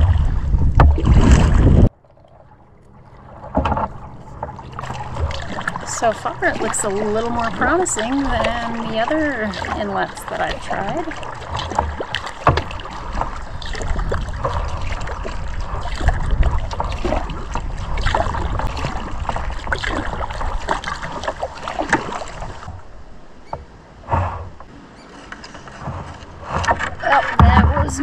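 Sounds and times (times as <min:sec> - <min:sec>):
paddle strokes splashing water: 0:00.0 - 0:28.0.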